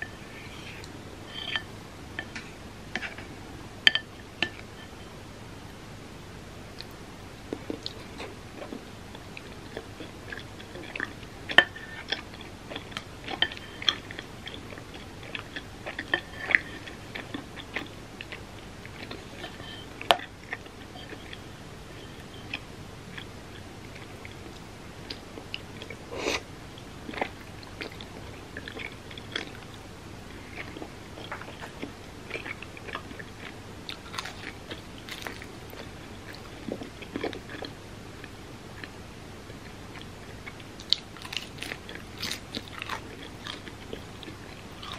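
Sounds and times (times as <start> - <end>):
person chewing food: 6.8 - 44.9.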